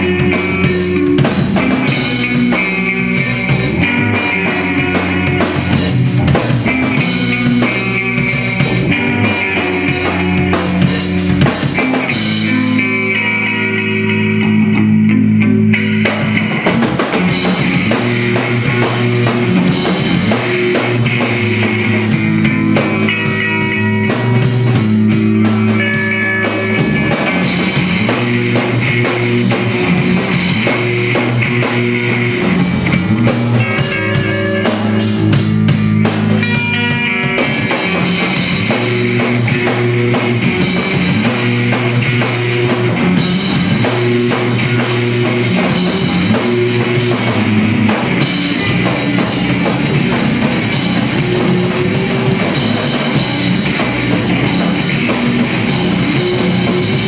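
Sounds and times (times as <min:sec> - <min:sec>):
steady drumming: 0:00.0 - 0:13.0, 0:16.0 - 0:57.0
rock band playing: 0:00.0 - 0:57.0
sustained electric guitar notes: 0:00.0 - 0:57.0.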